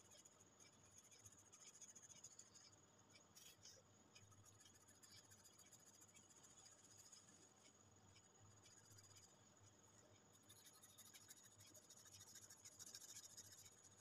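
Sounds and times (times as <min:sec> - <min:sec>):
pencil scratching on paper: 0:00.1 - 0:09.4, 0:10.3 - 0:14.0.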